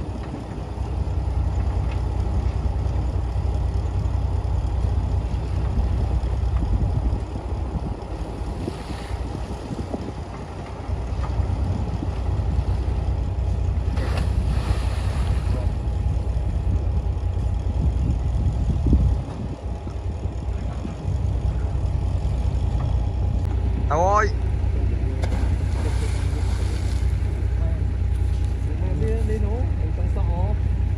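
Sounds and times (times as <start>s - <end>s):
heavy machinery diesel engine: 0.0s - 30.9s.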